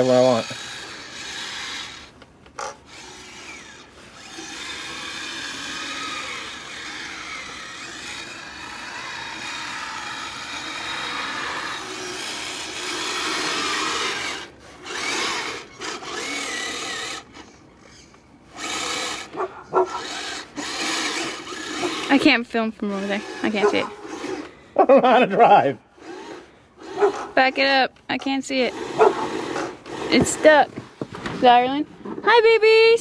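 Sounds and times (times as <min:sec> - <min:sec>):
electric motor and gearbox whining: 0:00.0 - 0:24.6, 0:25.3 - 0:33.0.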